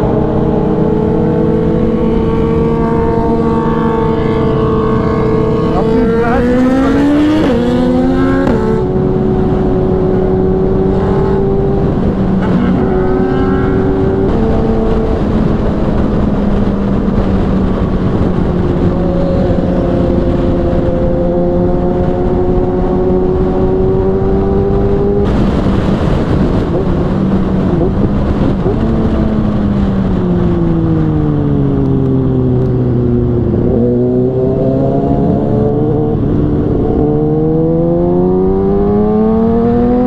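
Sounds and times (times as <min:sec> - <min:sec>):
motorcycle engine running hard: 0:00.0 - 0:40.0
wind rush: 0:00.0 - 0:40.0.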